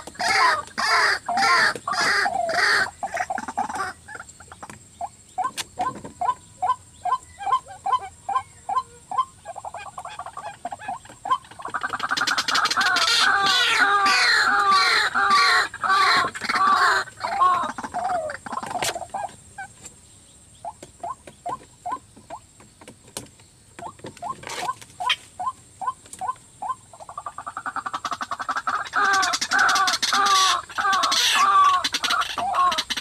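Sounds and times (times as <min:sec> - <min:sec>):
waterhen croaking calls: 0:00.0 - 0:19.7, 0:23.8 - 0:33.0.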